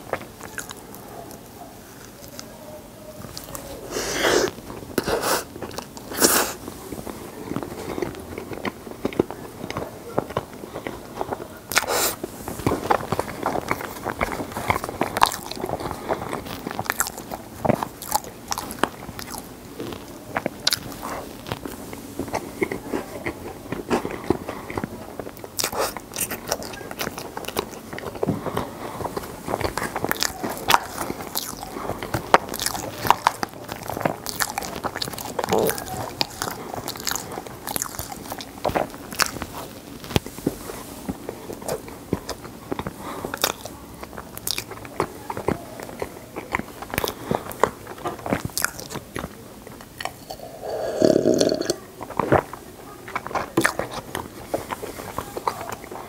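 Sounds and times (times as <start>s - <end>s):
cookie crunches: 0.0s - 56.0s
wet chewing: 0.0s - 56.0s.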